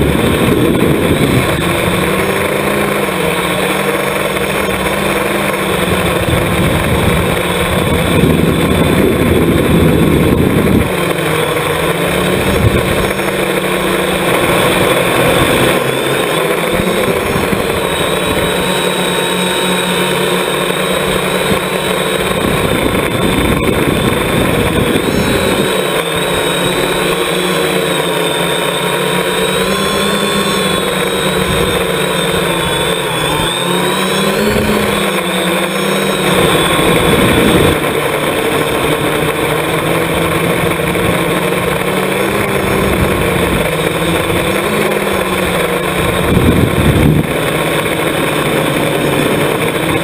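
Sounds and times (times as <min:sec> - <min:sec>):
drone motors whining: 0:00.0 - 0:50.0
rushing noise: 0:00.0 - 0:50.0.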